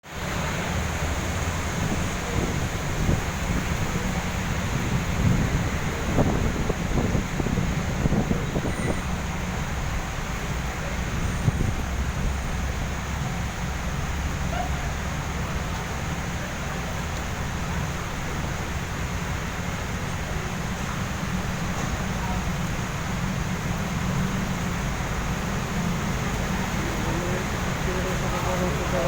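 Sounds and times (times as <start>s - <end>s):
rain and spray hiss: 0.0s - 29.0s
road traffic rumble: 0.0s - 29.0s.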